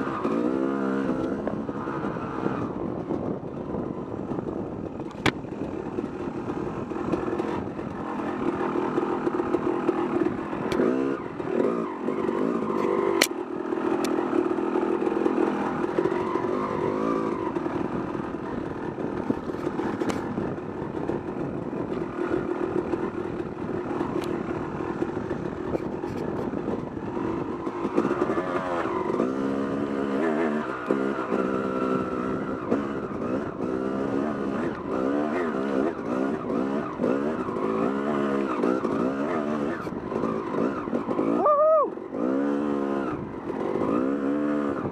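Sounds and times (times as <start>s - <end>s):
dirt bike engine revving: 0.0s - 2.8s, 5.8s - 44.9s.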